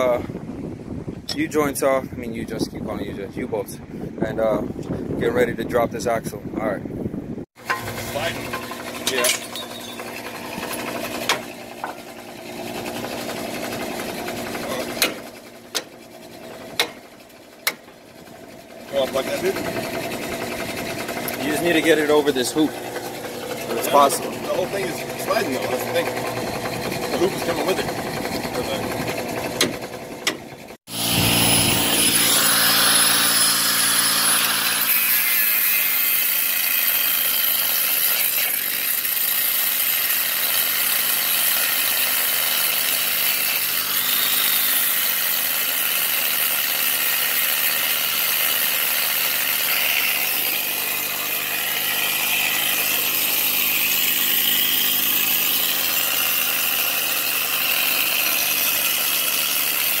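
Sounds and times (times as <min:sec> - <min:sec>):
angle grinder cutting steel: 0:07.6 - 1:00.0.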